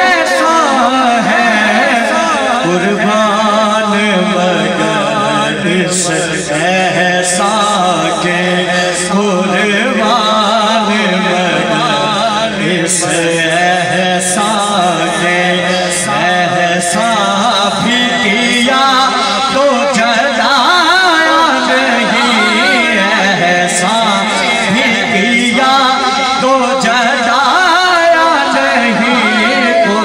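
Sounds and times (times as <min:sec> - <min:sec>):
man singing through sound system: 0:00.0 - 0:30.0.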